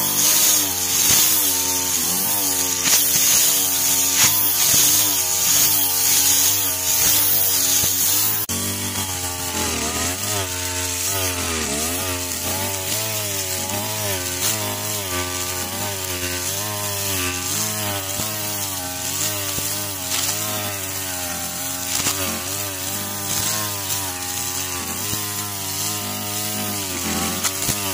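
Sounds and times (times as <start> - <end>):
brush cutter cutting grass: 0.0 - 27.9.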